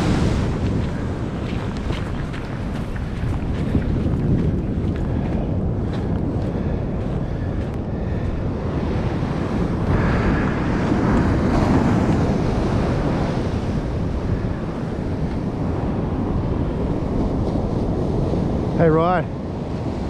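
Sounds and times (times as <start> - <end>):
ocean surf breaking: 0.0 - 20.0
wind buffeting microphone: 0.0 - 20.0.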